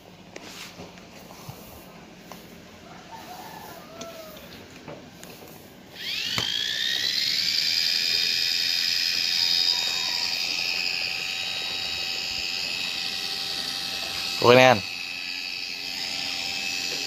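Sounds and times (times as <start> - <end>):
small electric motor whining: 3.0 - 17.0.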